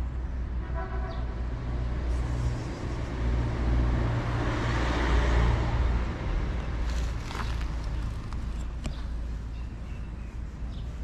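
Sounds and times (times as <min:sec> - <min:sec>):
motor vehicle passing: 0:01.3 - 0:11.0.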